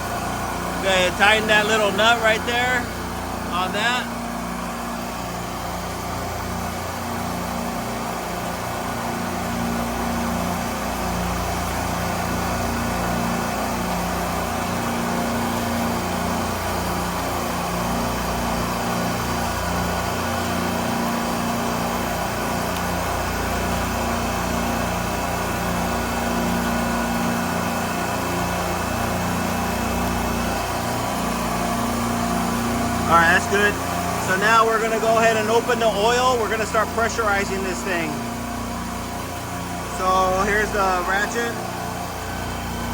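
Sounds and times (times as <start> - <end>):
refrigeration machinery humming: 0.0 - 42.9.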